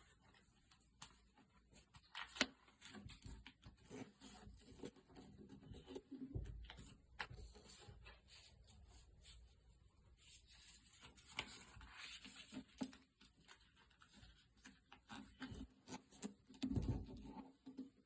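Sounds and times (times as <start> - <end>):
paper folding and rustling: 0.0 - 17.2.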